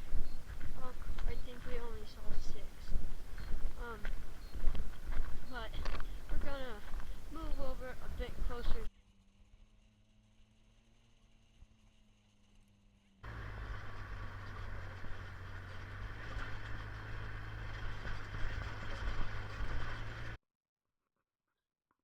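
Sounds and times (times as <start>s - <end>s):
vehicle running with low hum: 0.0s - 20.4s.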